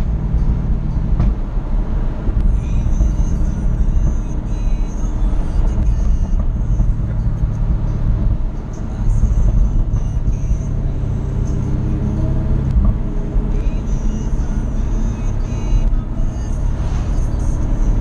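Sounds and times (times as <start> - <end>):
road and wind noise: 0.0 - 18.0
sports car engine driving hard: 0.0 - 18.0.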